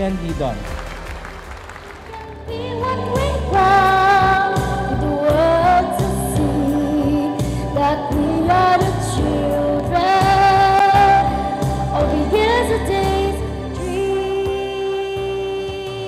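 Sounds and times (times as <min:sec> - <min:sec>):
person singing slow melody: 0:02.1 - 0:16.0.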